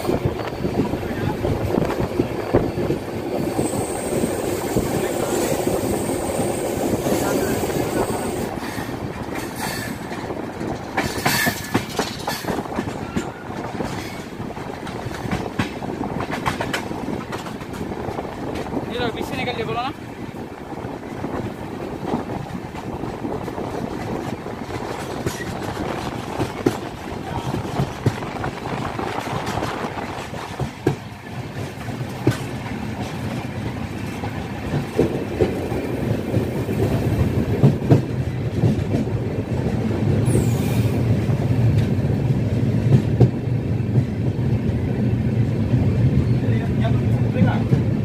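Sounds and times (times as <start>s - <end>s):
train wheels clicking over rail joints: 1.6s - 19.3s, 20.0s - 44.8s.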